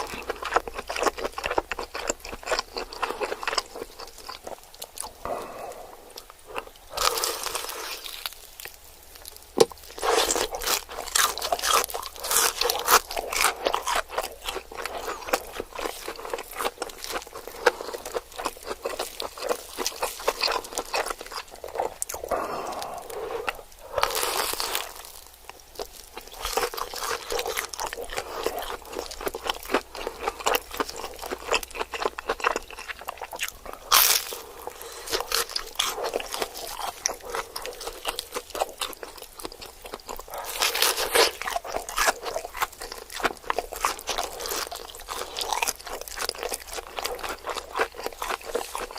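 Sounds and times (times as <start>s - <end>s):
crunchy snack chewing: 0.0s - 48.9s.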